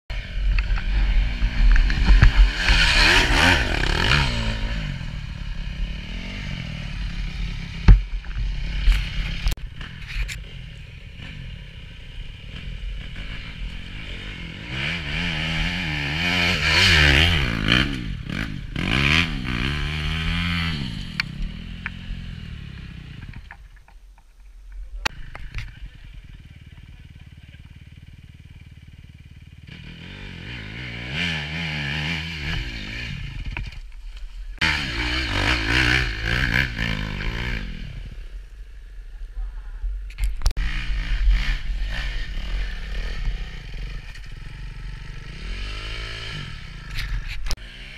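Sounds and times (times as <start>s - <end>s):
motorcycle engines revving hard: 0.1s - 23.4s, 25.1s - 33.8s, 34.6s - 38.4s, 40.5s - 47.9s.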